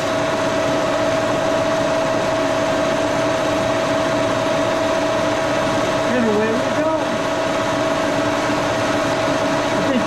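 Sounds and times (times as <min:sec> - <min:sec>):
end mill cutting aluminum: 0:00.0 - 0:10.0
milling machine hum: 0:00.0 - 0:10.0.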